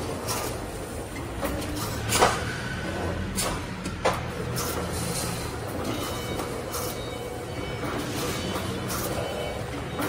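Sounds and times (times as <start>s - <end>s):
welding machine hum: 0.0s - 10.0s.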